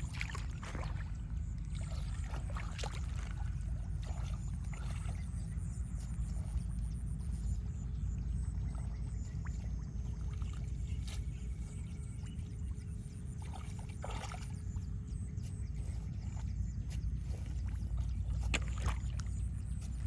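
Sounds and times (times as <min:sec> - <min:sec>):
low rumble: 0:00.0 - 0:20.0
water sloshing and splashing: 0:00.0 - 0:20.0.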